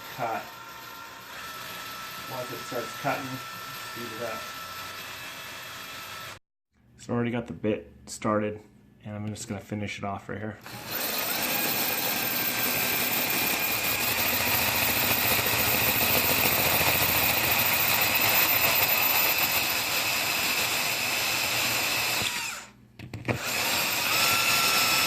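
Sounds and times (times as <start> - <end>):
power drill grinding through tile: 0.0 - 6.4, 10.6 - 25.0.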